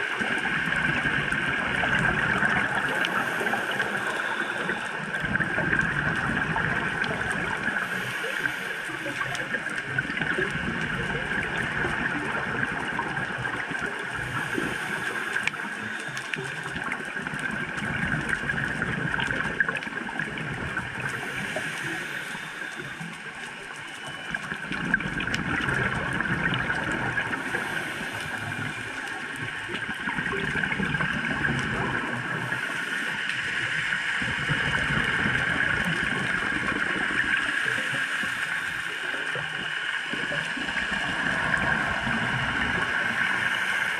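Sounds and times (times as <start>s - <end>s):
muffled underwater hiss and rumble: 0.0s - 43.9s
fine crackling clicks: 0.1s - 43.9s.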